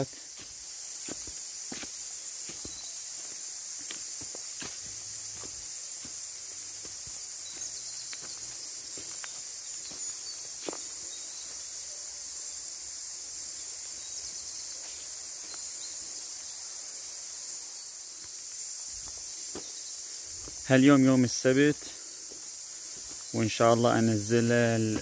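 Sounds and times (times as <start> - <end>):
footsteps on leafy dirt path: 0.0 - 11.7, 13.9 - 16.4, 18.0 - 25.0
forest insects chorus: 0.0 - 25.0.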